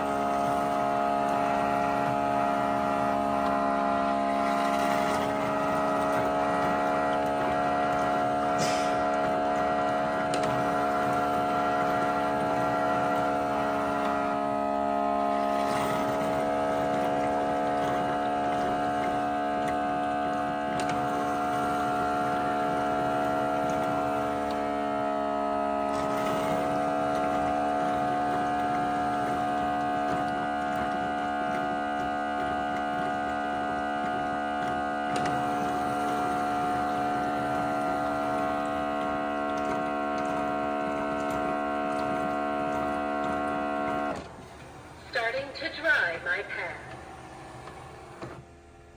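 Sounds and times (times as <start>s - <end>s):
motor and pump hum: 0.0s - 48.9s.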